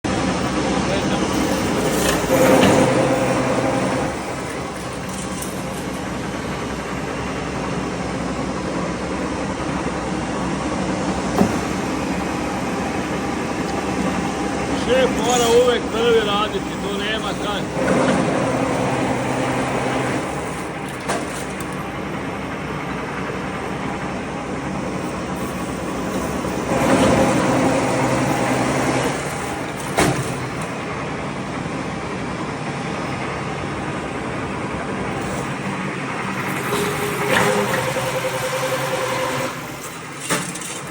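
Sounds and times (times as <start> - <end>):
machine humming and grinding: 0.1 - 40.9.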